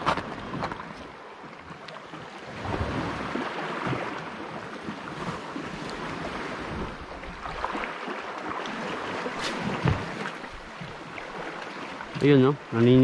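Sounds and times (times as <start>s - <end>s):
sea waves washing against rocks: 0.0s - 13.0s.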